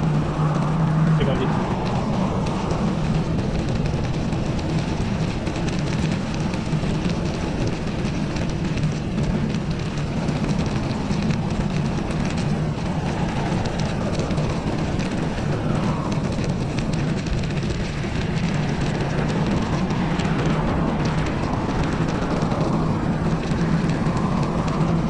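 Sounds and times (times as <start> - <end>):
bicycle tyres rolling: 0.0 - 25.0
wind buffeting microphone: 0.0 - 25.0.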